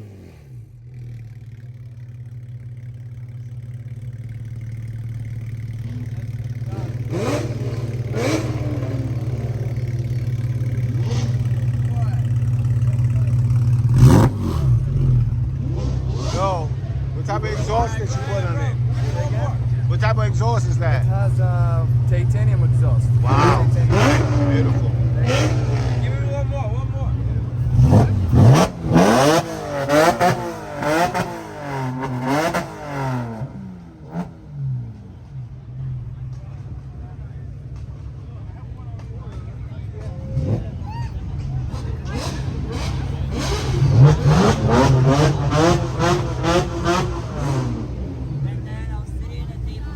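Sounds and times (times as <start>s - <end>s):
sports car engine idling: 0.0s - 49.9s
exhaust crack: 0.1s - 49.9s.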